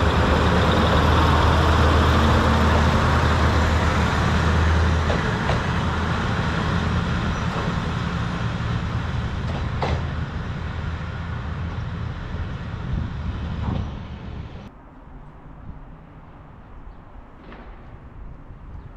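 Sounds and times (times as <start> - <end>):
diesel railcar engine drone: 0.0 - 17.3.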